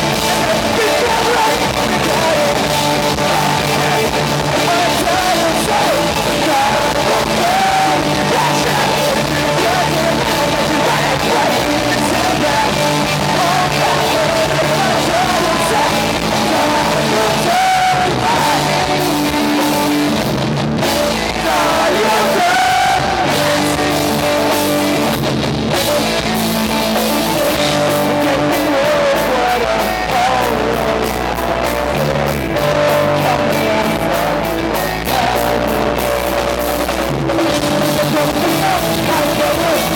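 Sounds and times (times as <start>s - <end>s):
male lead vocal: 0.0s - 39.9s
pop-punk band playing live: 0.0s - 39.9s.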